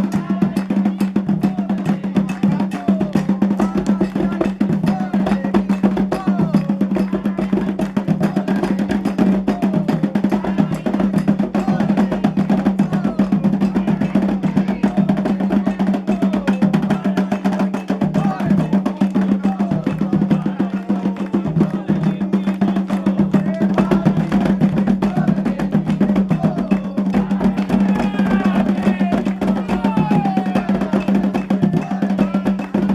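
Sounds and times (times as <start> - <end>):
hand drums fast beat: 0.0 - 32.9
voices singing: 0.0 - 32.9.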